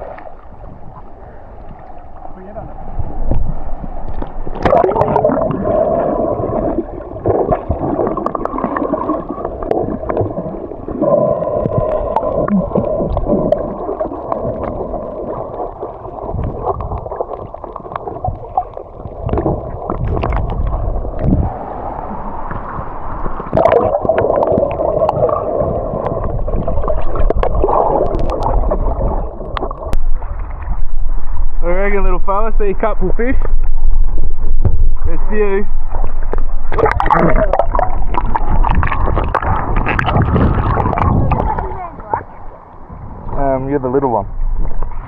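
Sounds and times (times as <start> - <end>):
hum: 0.0 - 45.0
muffled underwater gurgling: 0.0 - 45.0.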